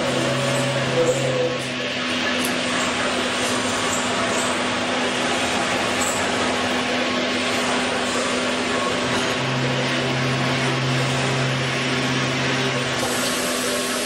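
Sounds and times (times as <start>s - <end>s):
machine hiss and hum: 0.0s - 14.0s.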